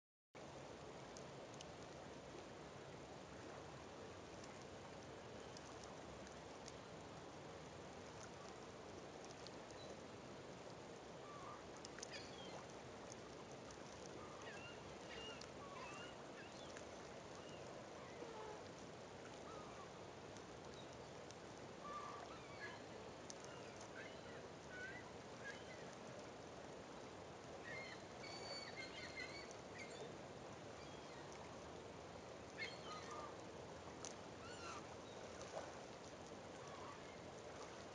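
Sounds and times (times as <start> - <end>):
faint steady hiss: 0.4 - 37.9.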